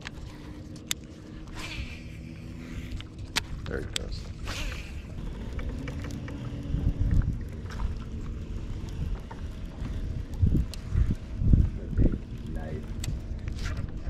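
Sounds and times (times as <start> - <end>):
faint hum: 0.0 - 14.0
wind rumbling on microphone: 0.0 - 14.0.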